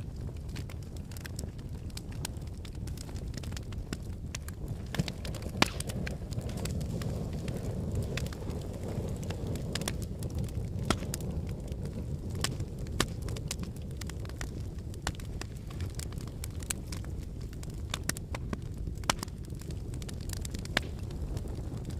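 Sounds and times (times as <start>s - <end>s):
fire crackles and pops: 0.0s - 21.9s
low rumble of flames: 0.0s - 21.9s.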